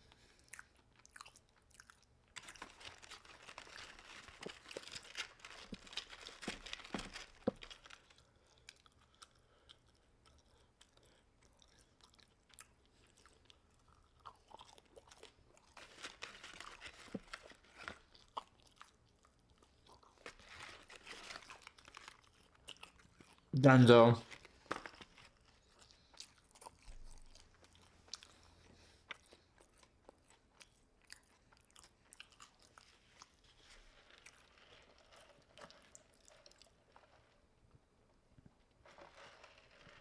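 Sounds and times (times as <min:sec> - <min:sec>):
person chewing crunchy food: 0:00.0 - 0:23.5, 0:24.3 - 0:37.4.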